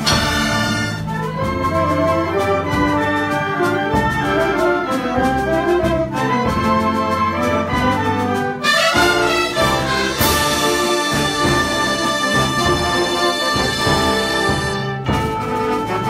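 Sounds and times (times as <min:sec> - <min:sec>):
wind band playing: 0:00.0 - 0:16.0.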